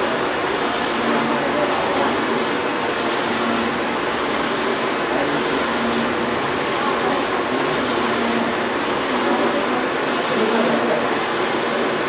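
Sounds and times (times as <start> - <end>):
printer carriage shuttling whir: 0.0 - 12.0.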